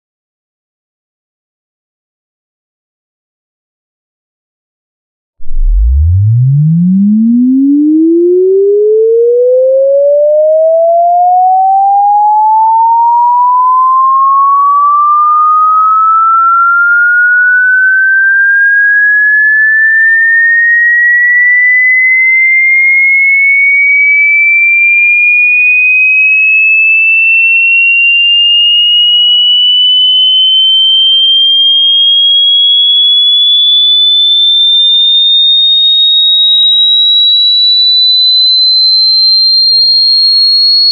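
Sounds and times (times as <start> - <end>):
electronic sine tone sweeping upward: 5.4 - 40.9.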